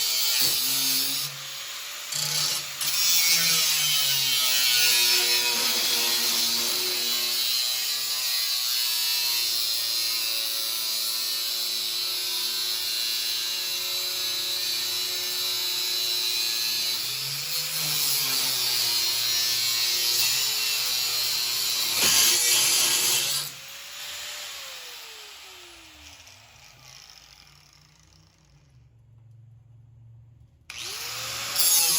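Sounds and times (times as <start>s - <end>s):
angle grinder cutting metal: 0.0s - 28.8s, 30.7s - 31.9s.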